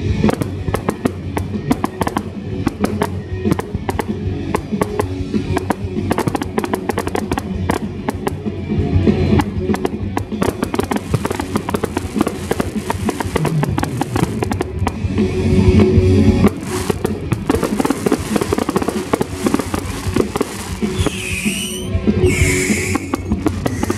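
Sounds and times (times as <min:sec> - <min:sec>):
fireworks bursting and crackling: 0:00.0 - 0:23.9
music: 0:00.0 - 0:23.9.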